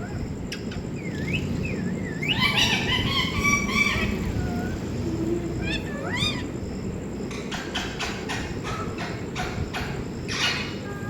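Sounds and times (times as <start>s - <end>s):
parrot calling: 0.0s - 6.6s, 7.3s - 11.0s.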